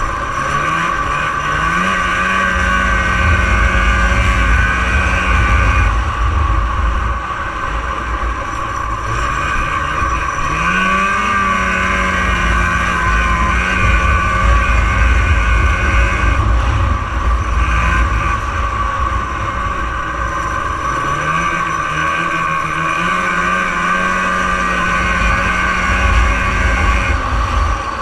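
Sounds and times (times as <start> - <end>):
snowmobile two-stroke engine: 0.0 - 28.0.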